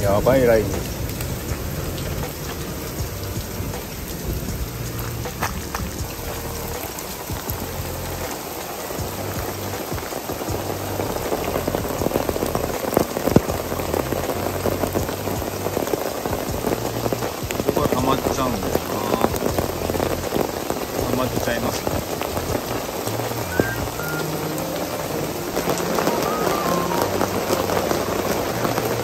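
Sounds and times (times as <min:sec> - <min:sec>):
rain falling: 0:00.0 - 0:29.0
raindrops ticking close by: 0:00.0 - 0:29.0.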